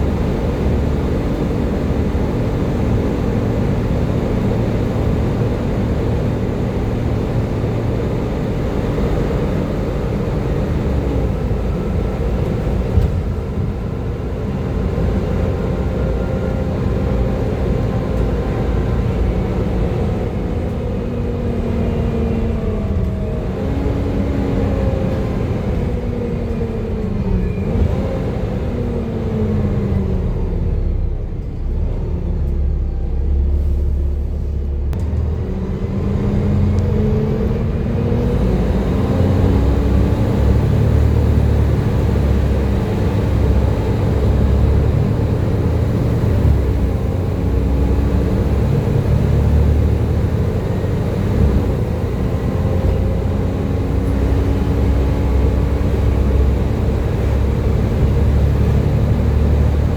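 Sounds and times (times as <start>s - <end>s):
bus engine whining: 0.0s - 59.9s.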